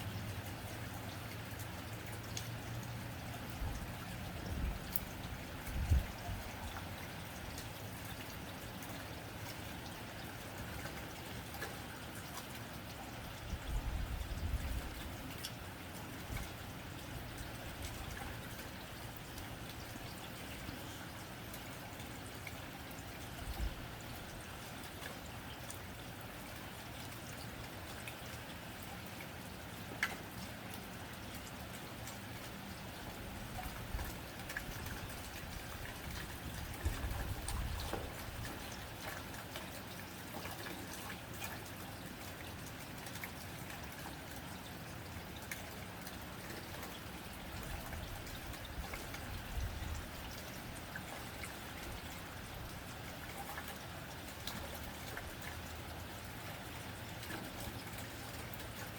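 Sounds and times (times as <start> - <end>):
rain on a tin roof: 0.0 - 58.9.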